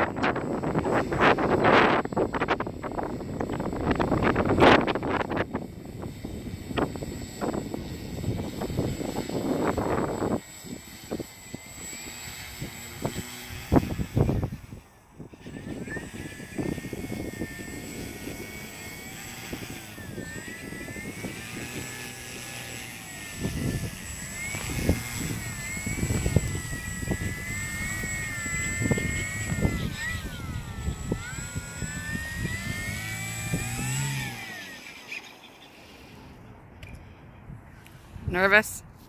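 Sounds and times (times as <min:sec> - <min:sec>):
wind buffeting microphone: 0:00.0 - 0:34.8
model plane motor whining: 0:00.0 - 0:38.5.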